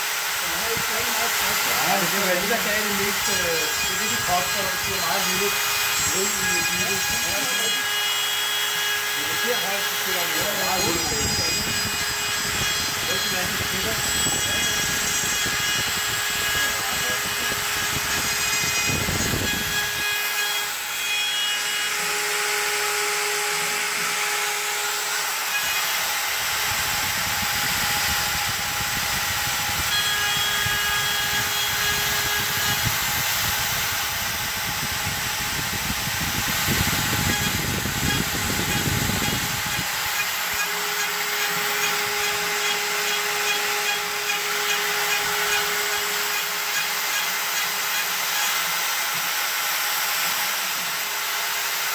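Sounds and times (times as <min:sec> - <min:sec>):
bit cutting wood: 0:00.0 - 0:51.9
router spindle whine: 0:00.0 - 0:51.9.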